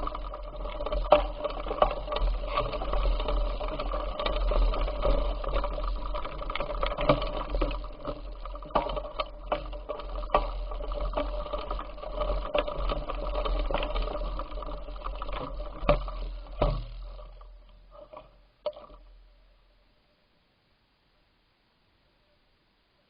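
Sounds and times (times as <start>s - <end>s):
bicycle rattling and clicking: 0.0s - 19.2s.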